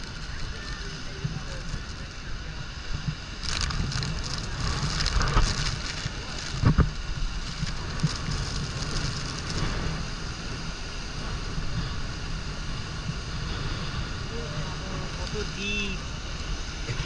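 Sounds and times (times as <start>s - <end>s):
waterfall rushing: 0.0s - 17.0s
wind buffeting microphone: 0.0s - 17.0s.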